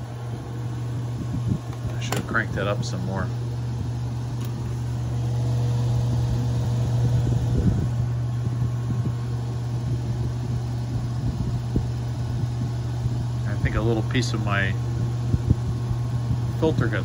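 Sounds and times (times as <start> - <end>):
blower motor humming: 0.0 - 17.0
light clattering in blower: 0.0 - 17.0.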